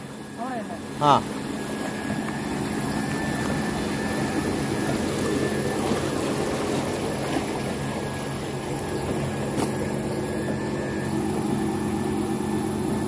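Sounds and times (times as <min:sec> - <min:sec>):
pump motor humming: 0:00.0 - 0:13.0.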